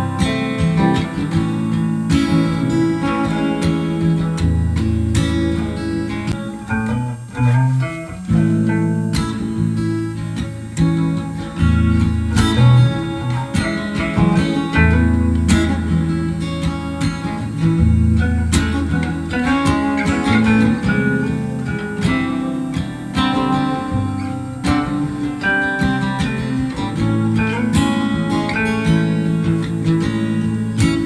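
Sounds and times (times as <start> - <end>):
acoustic guitar chords: 0.0 - 31.0
steady bass line: 0.0 - 31.0.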